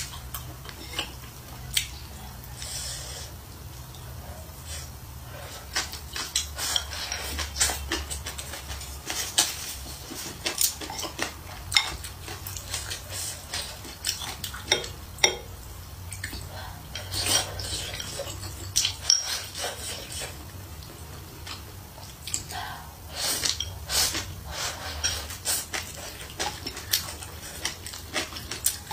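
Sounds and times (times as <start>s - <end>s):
eating noises: 0.0s - 28.9s.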